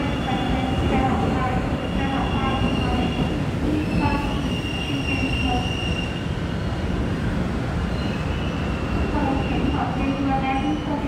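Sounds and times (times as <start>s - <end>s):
train rumbling on tracks: 0.0s - 11.0s.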